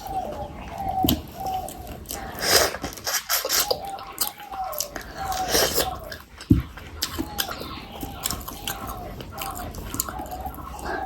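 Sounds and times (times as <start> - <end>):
wet chewing and lip-smacking: 0.0 - 11.0.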